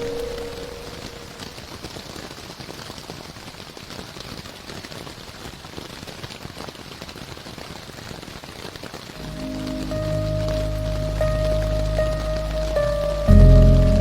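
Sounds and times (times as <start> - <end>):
steady rain patter: 0.0 - 14.0.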